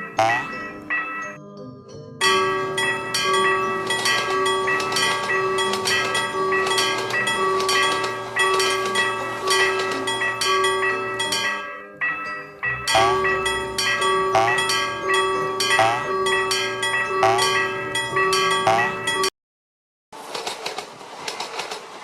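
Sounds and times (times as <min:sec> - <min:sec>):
railroad crossing bell ringing: 0:00.0 - 0:01.4, 0:02.2 - 0:19.3.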